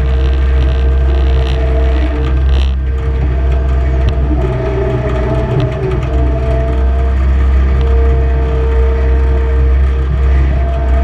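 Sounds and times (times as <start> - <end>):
skid steer engine droning: 0.0 - 11.0
steady engine whine: 0.0 - 11.0.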